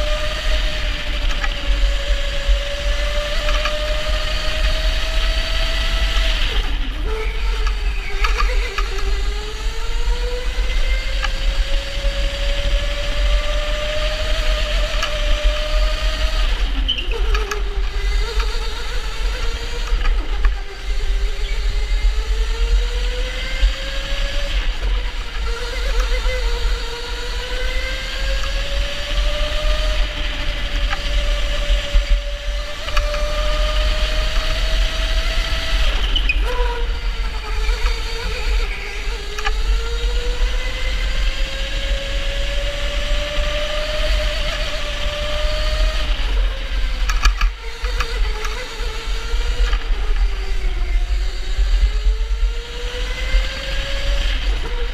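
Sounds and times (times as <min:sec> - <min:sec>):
electric go-kart motor whining: 0:00.0 - 0:54.9.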